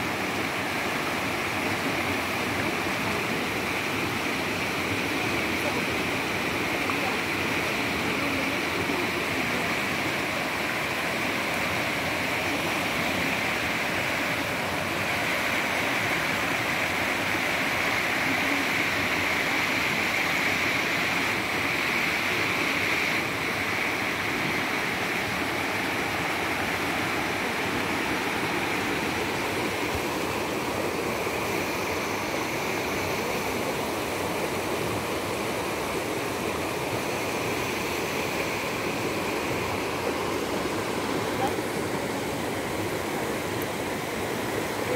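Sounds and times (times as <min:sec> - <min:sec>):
river rushing over rocks: 0:00.0 - 0:44.9.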